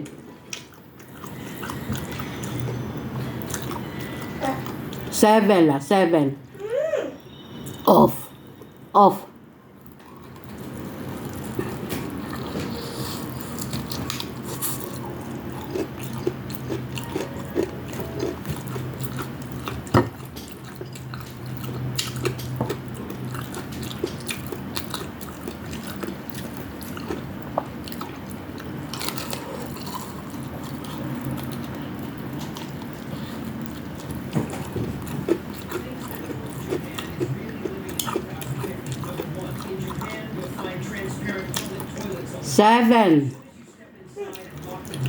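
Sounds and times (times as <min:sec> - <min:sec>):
chewing crunchy fried food: 0:00.5 - 0:05.1, 0:09.8 - 0:42.4, 0:43.4 - 0:45.0.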